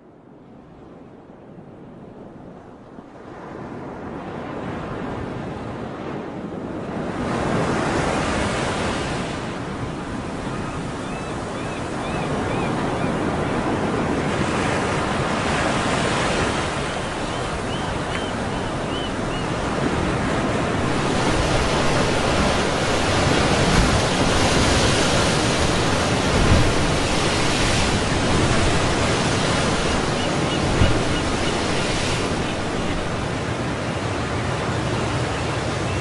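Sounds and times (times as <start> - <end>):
ocean surf breaking on beach: 3.1 - 36.0.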